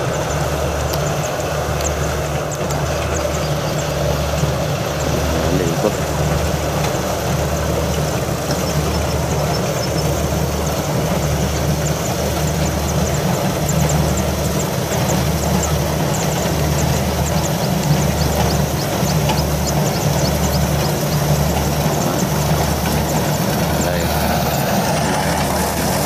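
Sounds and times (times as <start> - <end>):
faint rapid high ticking: 0.0 - 26.0
tractor diesel engine droning: 0.0 - 26.0.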